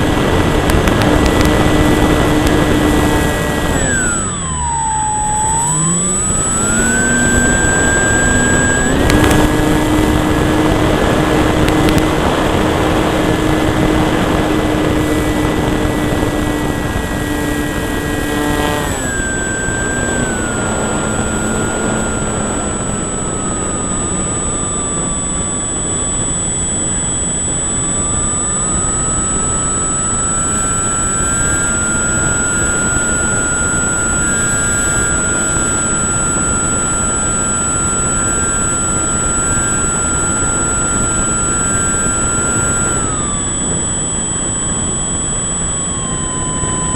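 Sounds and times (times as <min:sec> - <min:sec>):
model plane motor whining: 0:00.0 - 0:46.9.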